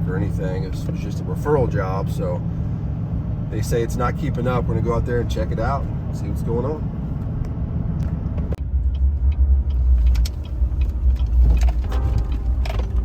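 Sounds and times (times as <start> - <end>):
vehicle road rumble: 0.0 - 13.0.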